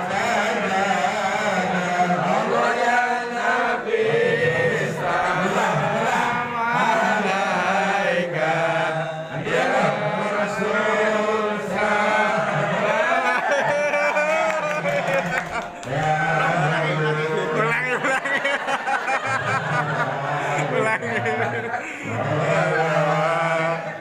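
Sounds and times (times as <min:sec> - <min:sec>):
voices chanting together: 0:00.0 - 0:24.0.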